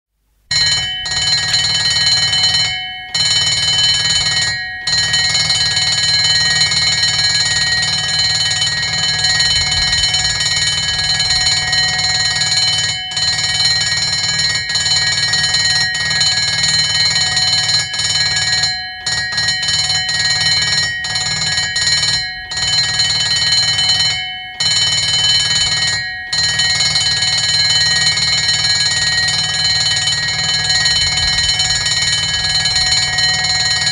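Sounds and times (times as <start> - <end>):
ambulance bell ringing: 0.5 - 33.9.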